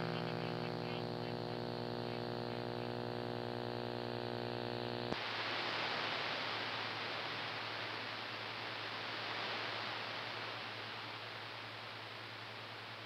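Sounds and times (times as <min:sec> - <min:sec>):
mains hum on radio: 0:00.0 - 0:13.0
radio static hiss: 0:00.0 - 0:13.0.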